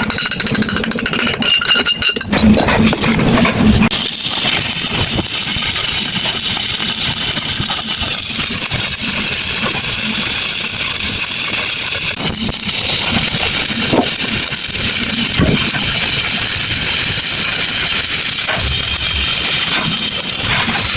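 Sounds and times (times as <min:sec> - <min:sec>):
arc welding hiss: 0:03.9 - 0:20.9.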